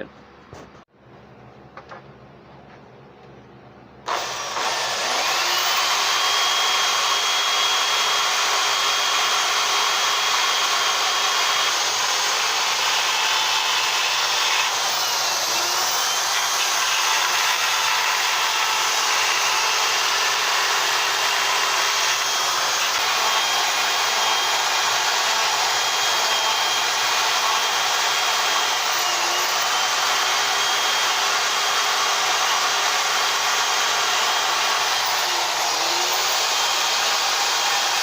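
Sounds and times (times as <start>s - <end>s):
chainsaw cutting wood: 4.1s - 38.0s.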